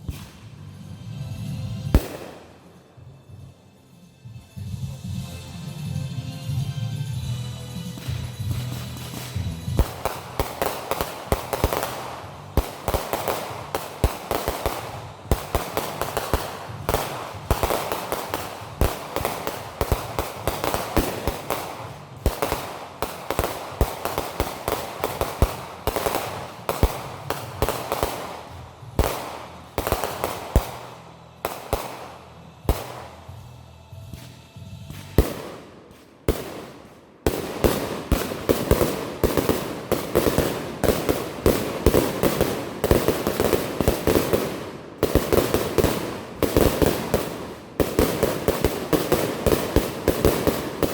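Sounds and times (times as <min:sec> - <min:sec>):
fireworks cracking and banging: 0:00.0 - 0:03.5, 0:07.7 - 0:50.9.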